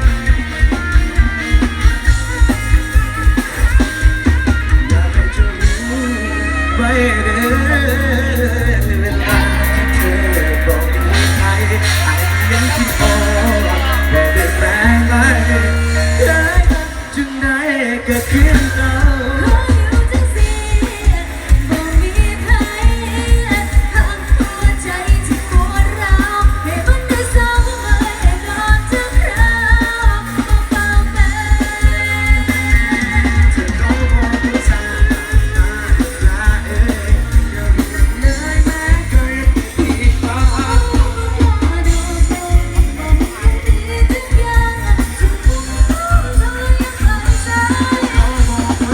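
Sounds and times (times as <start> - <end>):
pop song over sound system: 0.0 - 48.9.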